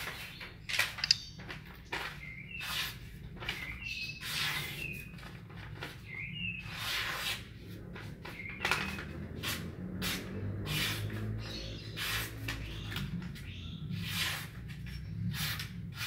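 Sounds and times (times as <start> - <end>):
blade slicing paper: 2.0 - 7.7, 8.6 - 16.0.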